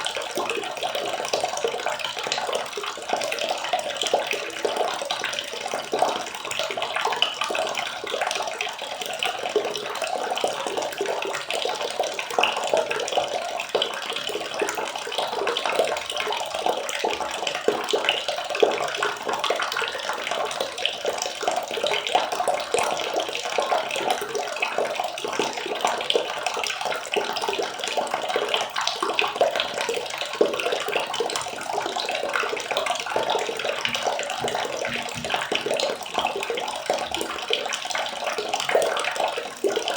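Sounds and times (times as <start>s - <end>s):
water running and splashing: 0.0s - 39.9s.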